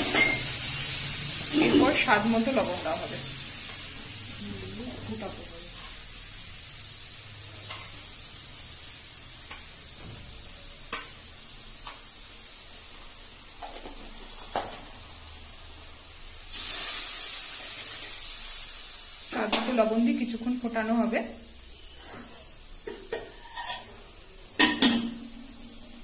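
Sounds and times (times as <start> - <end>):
gravy sizzling in a metal pan: 0.0 - 26.0.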